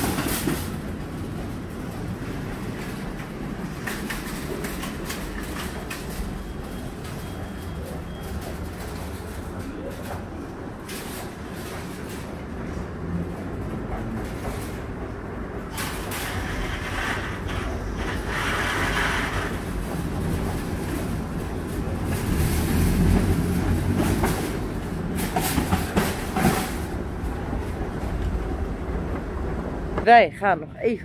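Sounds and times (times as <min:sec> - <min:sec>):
shopping trolleys rattling: 0:00.0 - 0:28.6.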